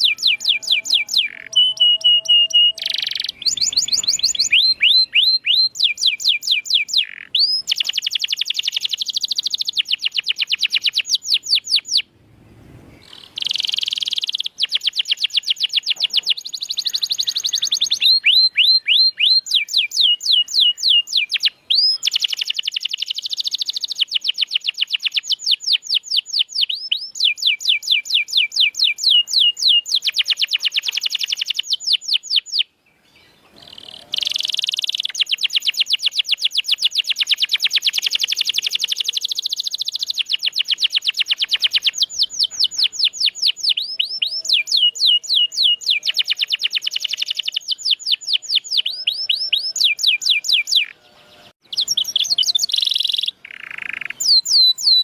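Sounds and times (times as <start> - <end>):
canary singing trills: 0.0 - 12.1, 12.9 - 55.0.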